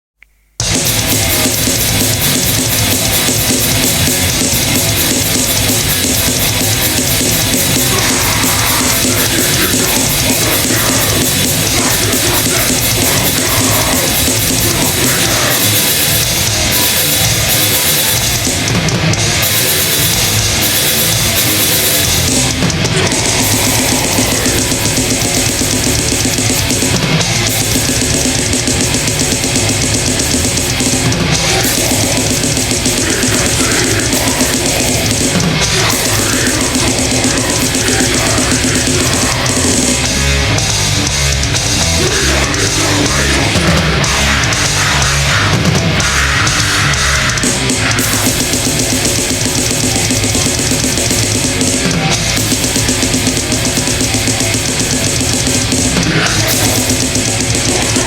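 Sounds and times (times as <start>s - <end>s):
drums playing blast beats: 0.5s - 58.0s
distorted heavy metal guitars: 0.6s - 58.0s.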